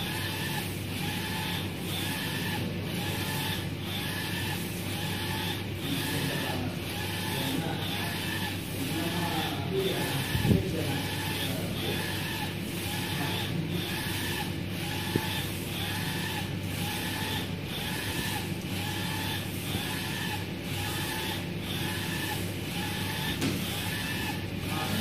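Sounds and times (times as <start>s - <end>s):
printer carriage whirring: 0.0s - 25.0s
printer steady hum: 0.0s - 25.0s.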